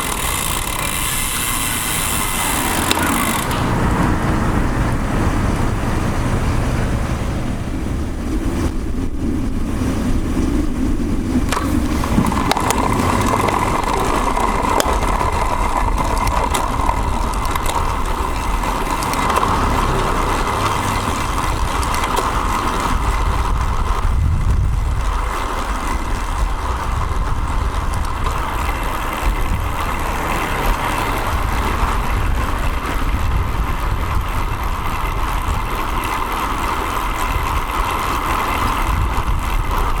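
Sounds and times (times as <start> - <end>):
scattered clicks: 0.0 - 3.8, 11.4 - 40.0
passing motor traffic: 0.0 - 40.0
wind and road noise: 0.0 - 40.0.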